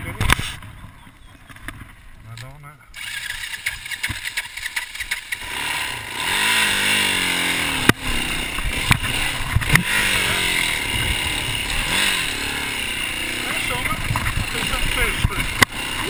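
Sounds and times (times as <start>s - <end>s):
motorcycle engine revving: 3.0s - 16.0s.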